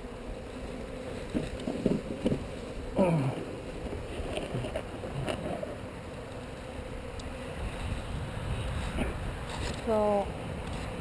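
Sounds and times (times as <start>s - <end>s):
honeybees humming: 0.0s - 11.0s
knocks and scrapes of hive equipment: 0.0s - 11.0s.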